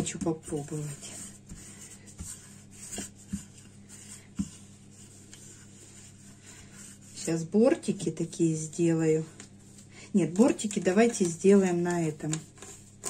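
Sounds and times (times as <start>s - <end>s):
hands rubbing pizza dough: 0.0s - 13.0s.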